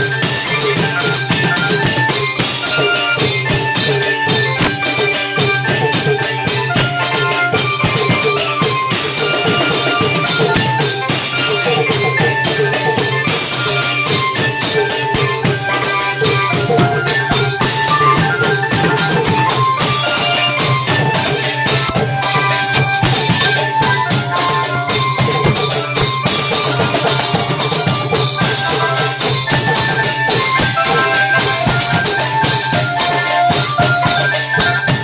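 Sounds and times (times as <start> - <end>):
cymbals: 0.0 - 35.0
drum ensemble playing: 0.0 - 35.0.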